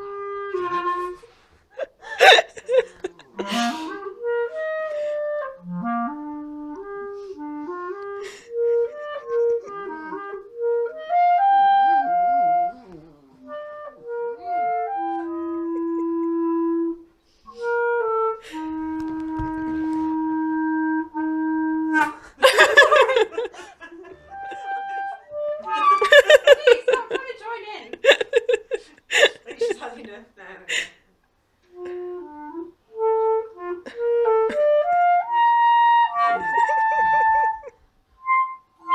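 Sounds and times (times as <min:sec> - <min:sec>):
clarinet playing slow melody: 0:00.0 - 0:26.6, 0:31.7 - 0:38.9.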